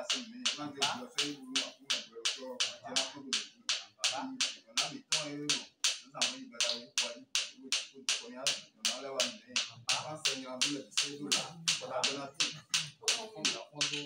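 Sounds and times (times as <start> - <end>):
group chanting: 0.0 - 14.0
sharp handclaps: 0.0 - 14.0.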